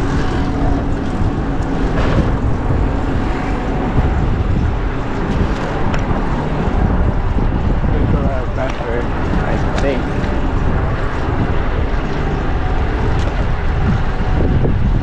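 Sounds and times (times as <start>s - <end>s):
city traffic noise: 0.0s - 15.0s
wind on microphone: 0.0s - 15.0s.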